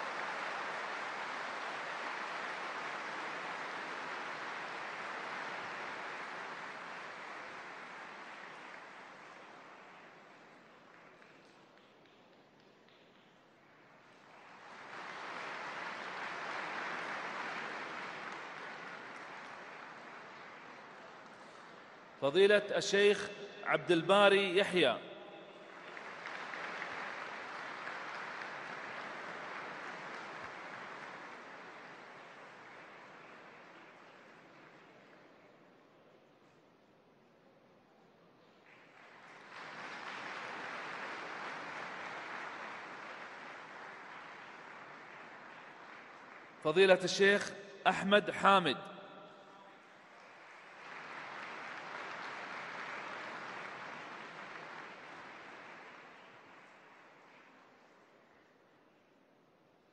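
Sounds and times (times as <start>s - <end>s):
audience applause: 0.0s - 12.1s, 13.7s - 23.1s, 24.2s - 35.5s, 38.6s - 48.9s, 49.8s - 58.5s.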